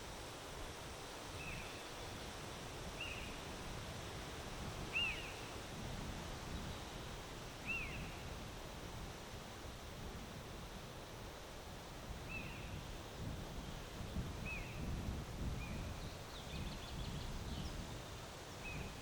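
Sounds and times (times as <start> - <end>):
wind blowing: 0.0 - 19.0.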